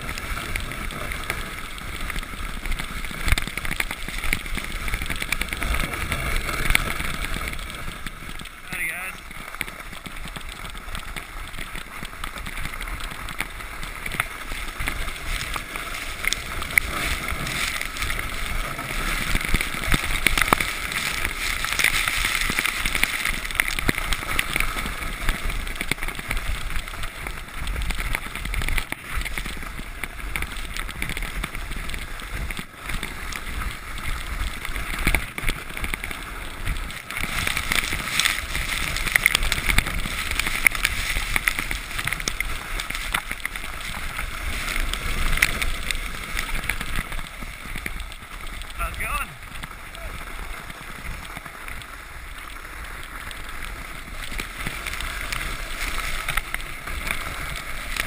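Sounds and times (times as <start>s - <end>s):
sled scraping over snow: 0.0s - 58.0s
wind rumbling on microphone: 0.0s - 58.0s.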